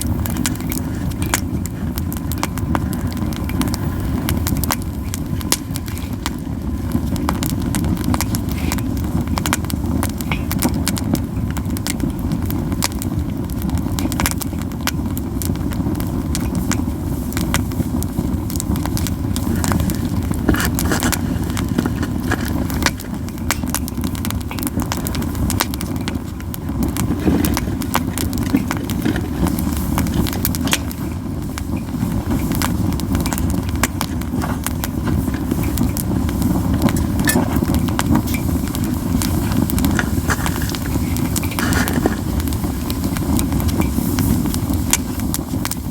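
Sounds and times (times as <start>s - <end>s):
campfire crackles and pops: 0.0s - 45.9s
steady low rumble: 0.0s - 45.9s.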